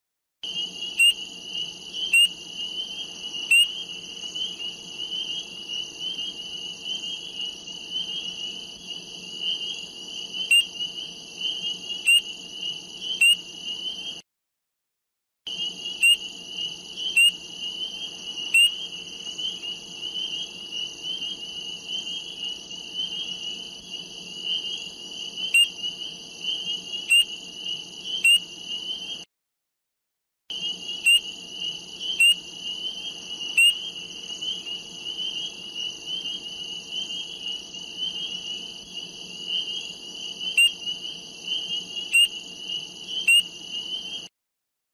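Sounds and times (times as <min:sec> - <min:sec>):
frogs trilling: 0:00.4 - 0:14.2, 0:15.5 - 0:29.3, 0:30.5 - 0:44.3
sharp frog calls: 0:00.4 - 0:14.2, 0:15.5 - 0:29.3, 0:30.5 - 0:44.3.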